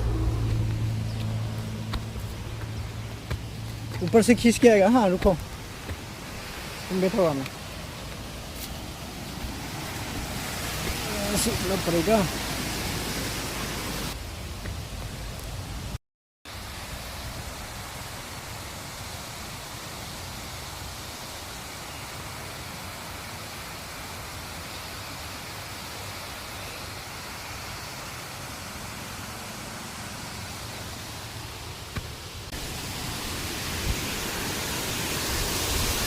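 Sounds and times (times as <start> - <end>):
waterfall rushing: 0.0 - 15.0, 16.5 - 36.0.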